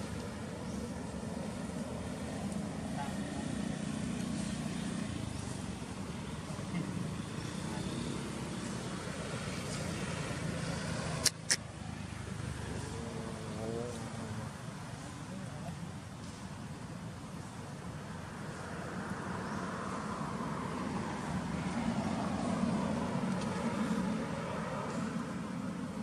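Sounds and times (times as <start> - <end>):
outdoor background rumble: 0.0 - 26.0.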